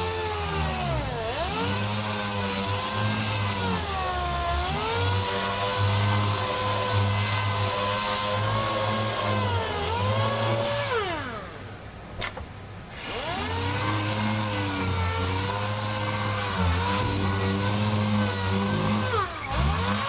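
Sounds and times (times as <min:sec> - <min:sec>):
pneumatic sander whine: 0:00.0 - 0:20.0.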